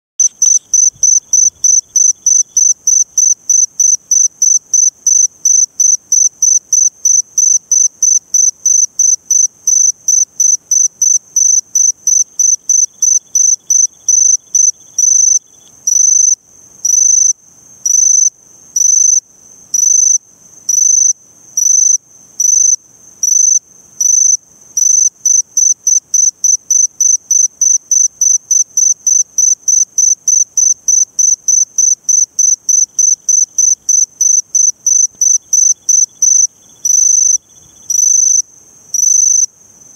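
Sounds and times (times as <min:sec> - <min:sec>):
cricket chirping: 0:00.2 - 0:39.9.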